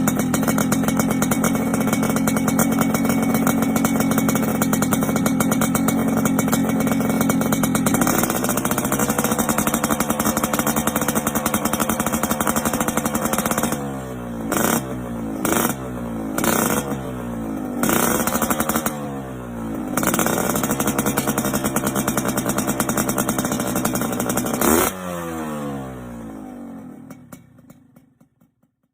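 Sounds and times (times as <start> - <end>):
motorcycle engine revving: 0.0 - 28.4.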